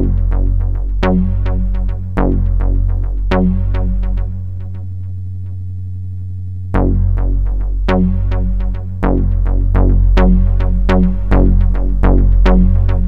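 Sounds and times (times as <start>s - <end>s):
plucked synth notes: 0.0s - 5.0s, 6.7s - 13.0s
held synth bass: 0.0s - 13.0s.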